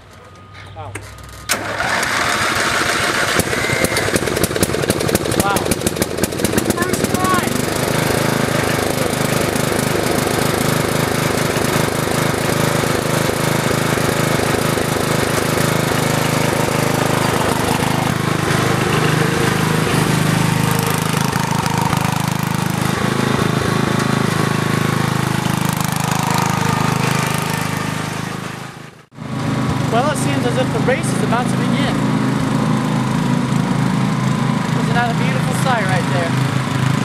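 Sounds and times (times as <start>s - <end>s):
lawn mower engine running: 1.0s - 37.0s.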